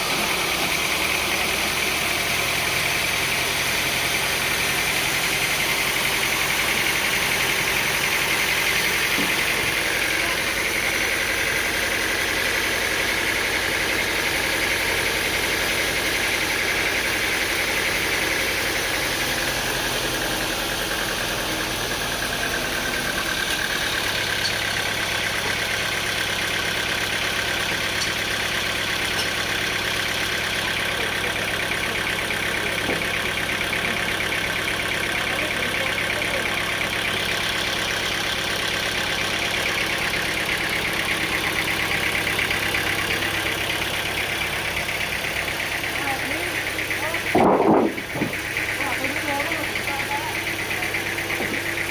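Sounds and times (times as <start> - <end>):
sawmill machinery droning: 0.0 - 51.9.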